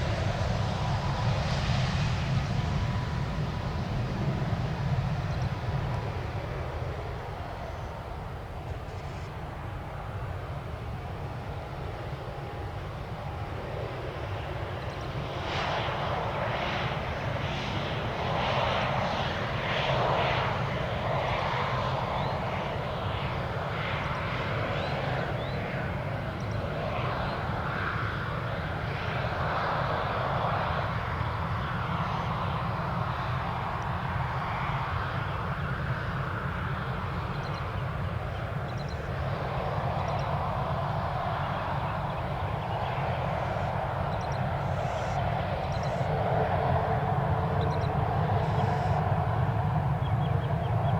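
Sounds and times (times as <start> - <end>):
jet airliner engines rumbling: 0.0 - 50.9.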